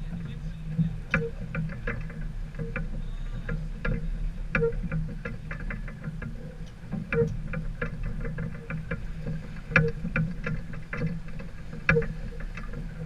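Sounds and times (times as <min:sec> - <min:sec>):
sailboat low rumble: 0:00.0 - 0:13.0
short knocks and ticks: 0:00.0 - 0:13.0.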